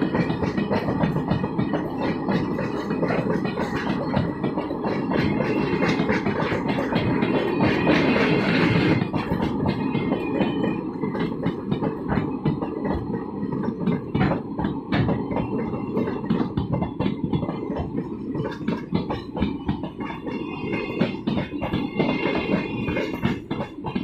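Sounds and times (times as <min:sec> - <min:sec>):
train wheels rumbling on rail: 0:00.0 - 0:24.0
wheels clacking over rail joints: 0:00.0 - 0:24.0.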